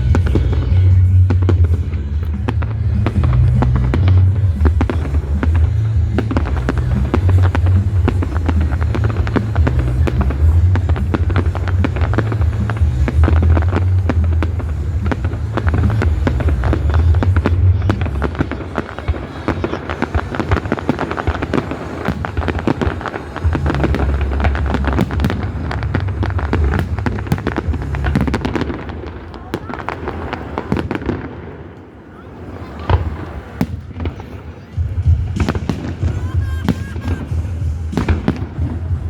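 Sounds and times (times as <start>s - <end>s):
fireworks crackling and popping: 0.0s - 39.0s
fireworks deep booming: 0.0s - 39.0s.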